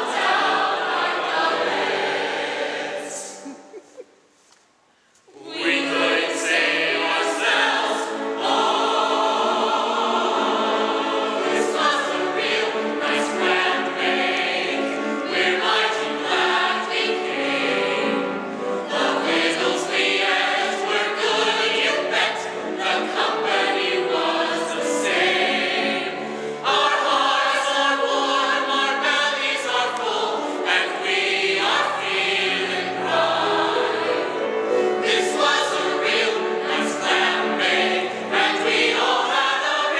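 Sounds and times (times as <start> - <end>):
mixed chorus singing: 0.0 - 3.5, 5.3 - 39.9.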